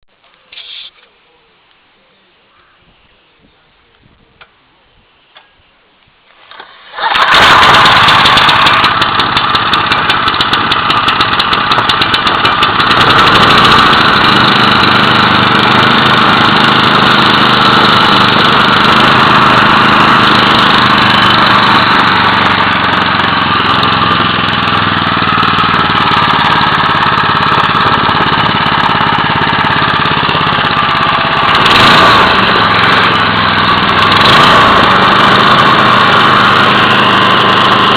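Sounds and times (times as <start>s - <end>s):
petrol engine running: 6.5s - 37.9s.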